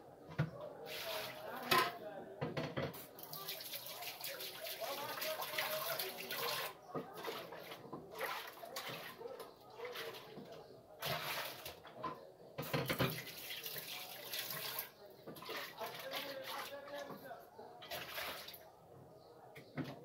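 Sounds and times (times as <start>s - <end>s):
distant indistinct voices: 0.0s - 20.0s.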